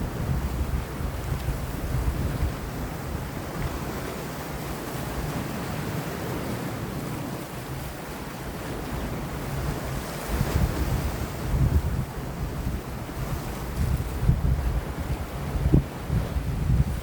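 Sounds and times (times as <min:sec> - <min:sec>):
sea waves washing against rocks: 0:00.0 - 0:17.0
wind: 0:00.0 - 0:17.0
wind gust rumbling on microphone: 0:00.0 - 0:17.0.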